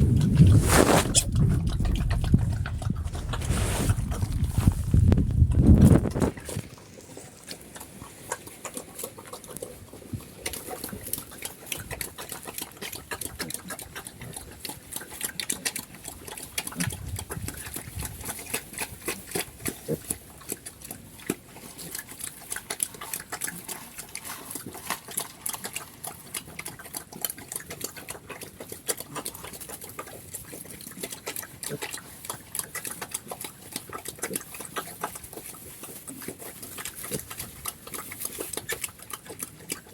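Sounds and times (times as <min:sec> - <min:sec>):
pigs chewing and smacking: 0:00.0 - 0:39.9.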